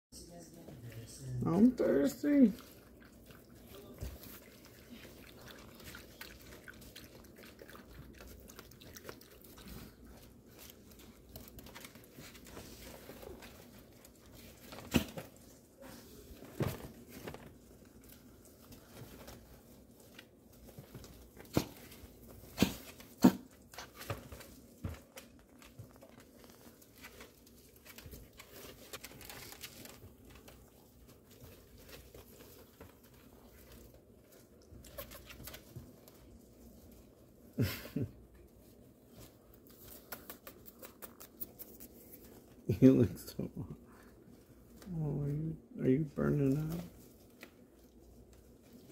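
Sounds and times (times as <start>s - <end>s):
puppies scratching and rustling: 0.3s - 48.9s.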